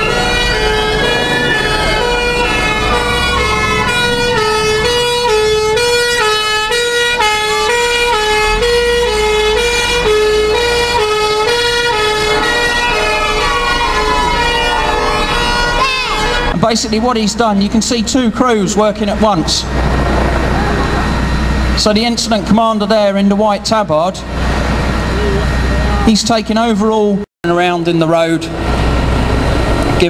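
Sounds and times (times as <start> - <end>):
two-tone siren: 0.0 - 26.7
wailing siren: 0.0 - 26.7.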